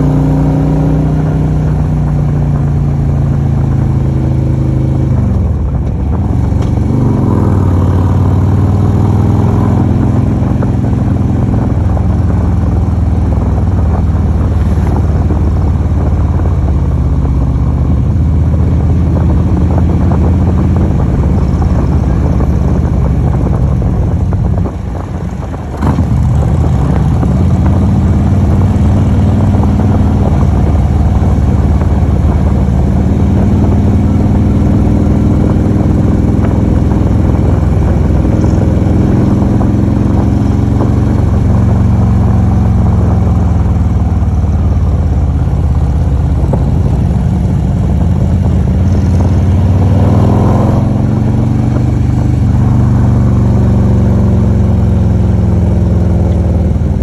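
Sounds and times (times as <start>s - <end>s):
motorcycle engine running: 0.0s - 57.0s
wind rush over microphone: 0.0s - 57.0s.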